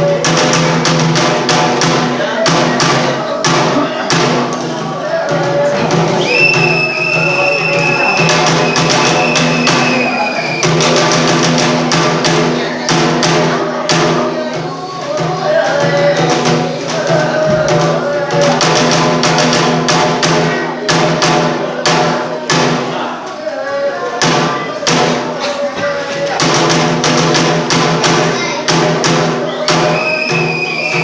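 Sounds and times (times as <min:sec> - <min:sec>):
drum struck in quick rhythm: 0:00.0 - 0:31.0.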